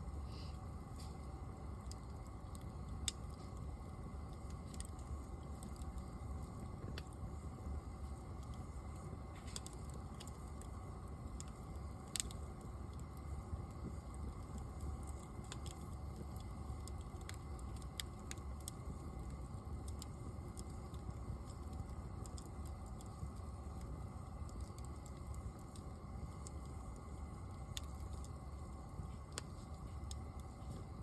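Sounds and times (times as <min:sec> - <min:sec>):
steady low rumble: 0:00.0 - 0:31.0
wood fire crackling and popping: 0:00.0 - 0:31.0.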